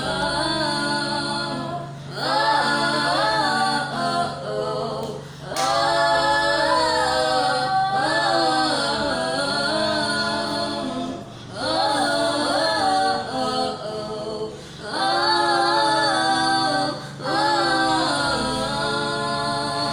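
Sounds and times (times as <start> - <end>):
a cappella group singing: 0.0 - 19.9
steady low hum: 0.0 - 19.9.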